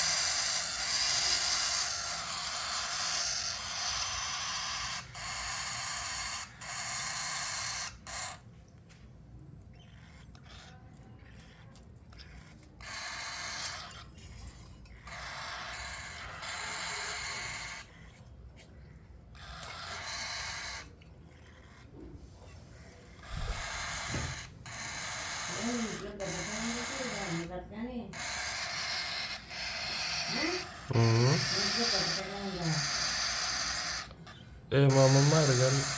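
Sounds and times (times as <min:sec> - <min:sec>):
bird chicks raspy begging calls: 0:00.0 - 0:08.5, 0:09.7 - 0:22.0, 0:22.7 - 0:35.9.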